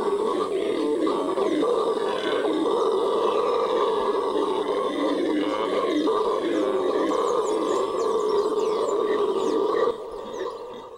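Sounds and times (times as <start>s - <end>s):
howler monkeys howling: 0.0s - 10.9s.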